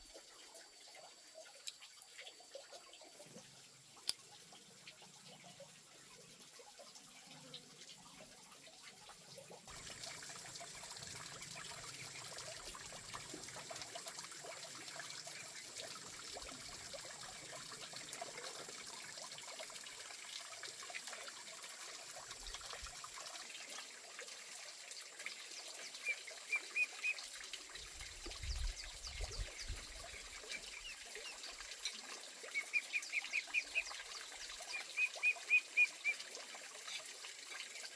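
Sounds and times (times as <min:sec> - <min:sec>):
water trickling: 0:00.0 - 0:37.9.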